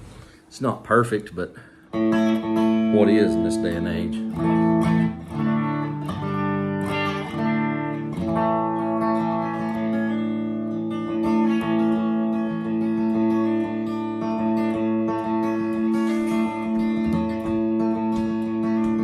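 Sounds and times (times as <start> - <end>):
clean electric guitar chords: 2.0 - 19.0.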